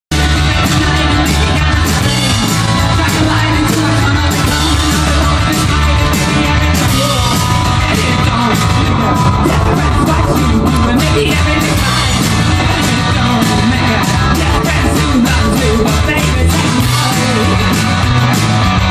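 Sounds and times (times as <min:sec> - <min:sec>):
drum kit beat: 0:00.1 - 0:18.9
electric guitars: 0:00.1 - 0:18.9
person singing: 0:00.1 - 0:18.9.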